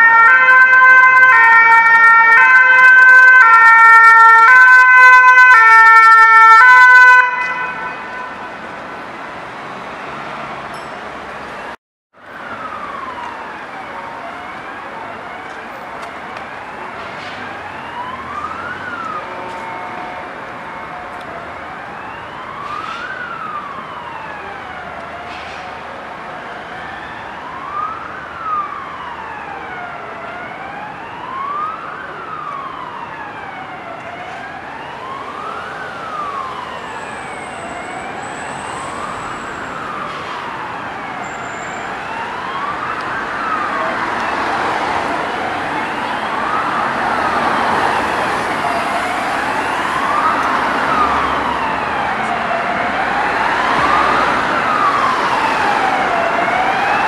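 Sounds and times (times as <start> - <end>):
emergency siren wailing: 0.0 - 57.0
traffic road noise: 0.0 - 57.0.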